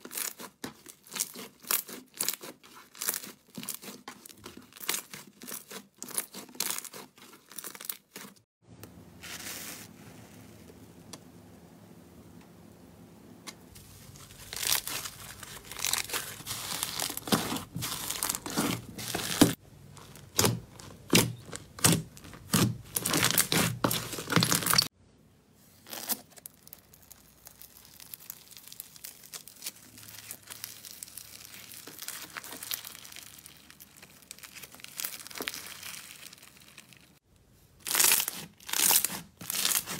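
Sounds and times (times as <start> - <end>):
slime crackling with foam beads: 0.0 - 8.5, 13.7 - 24.9, 25.8 - 37.2, 37.8 - 39.9.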